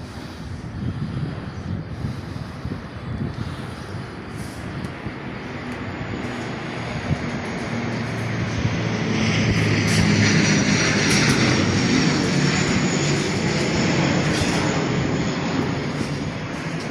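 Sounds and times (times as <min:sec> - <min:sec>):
machinery engine hum: 0:00.0 - 0:16.9.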